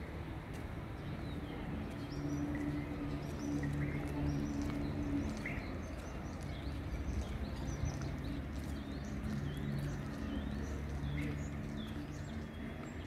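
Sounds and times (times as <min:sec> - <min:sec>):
small birds chirping: 0:00.9 - 0:13.0.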